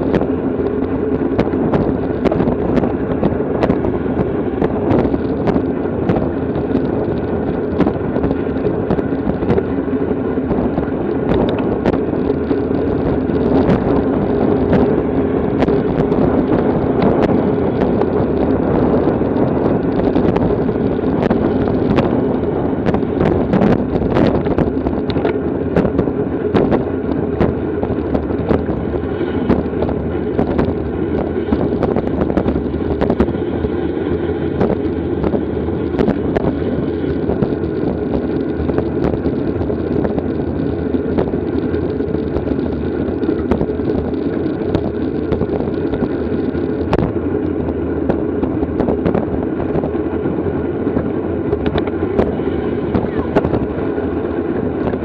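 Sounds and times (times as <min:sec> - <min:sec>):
bicycle road noise: 0:00.0 - 0:55.0
wind rush on microphone: 0:00.0 - 0:55.0.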